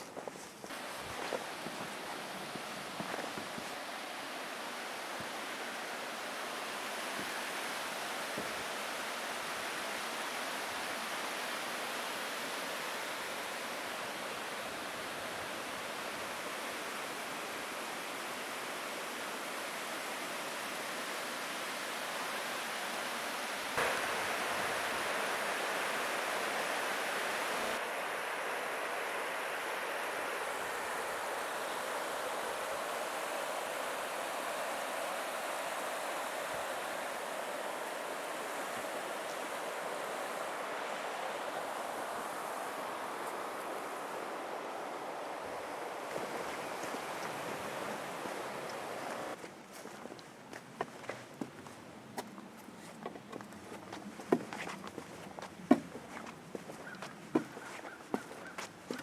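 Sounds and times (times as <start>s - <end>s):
water rushing over waterfall: 0.7s - 49.4s.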